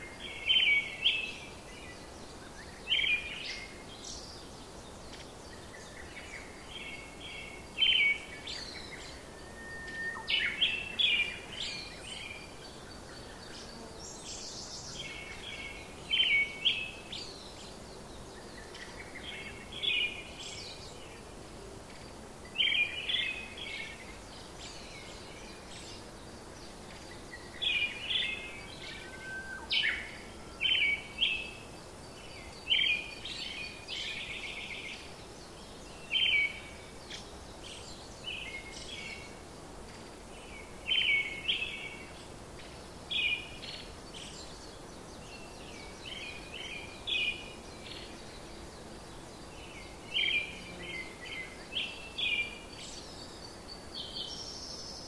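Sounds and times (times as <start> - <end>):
faint steady hiss: 0.0 - 55.0
small birds chirping: 0.0 - 55.0.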